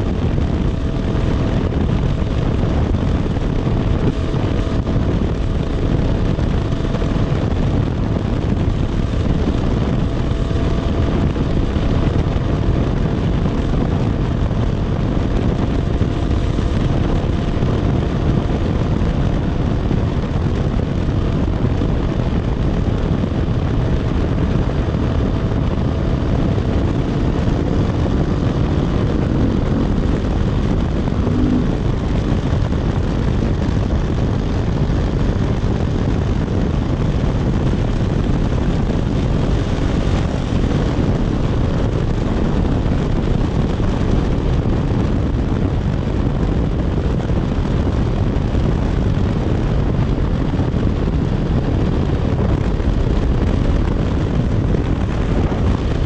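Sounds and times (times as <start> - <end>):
dirt bike engine running: 0.0 - 56.0
wind and road noise: 0.0 - 56.0.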